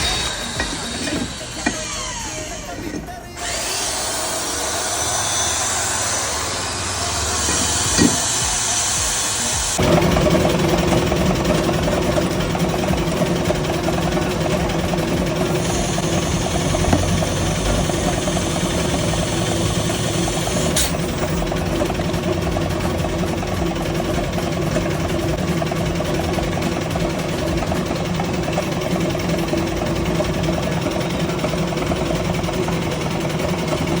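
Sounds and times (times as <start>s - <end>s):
high whine: 0.0s - 31.8s
machine motor humming: 0.0s - 34.0s.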